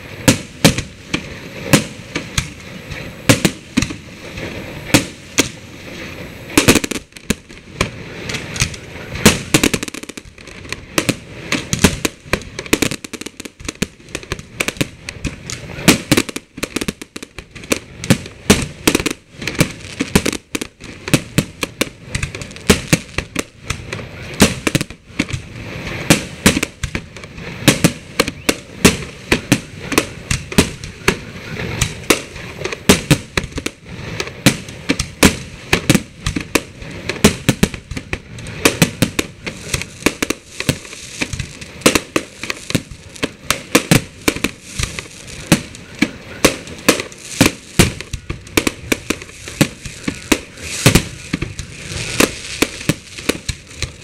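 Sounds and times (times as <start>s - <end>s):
fireworks bangs: 0.0s - 54.0s
fireworks crackling: 0.0s - 54.0s.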